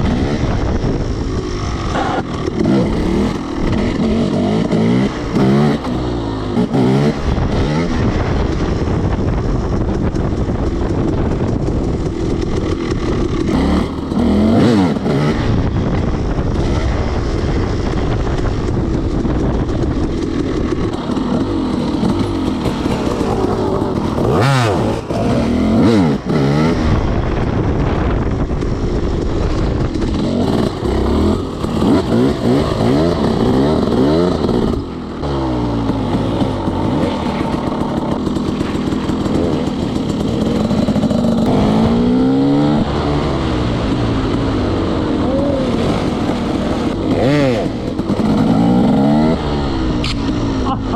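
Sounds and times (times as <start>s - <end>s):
dirt bike engine revving: 0.0s - 28.2s, 29.2s - 50.9s.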